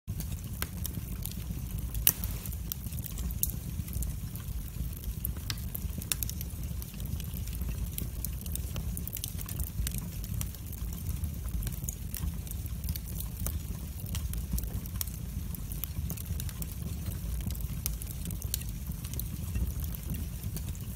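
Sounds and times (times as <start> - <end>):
wood fire crackling and popping: 0.1 - 20.9.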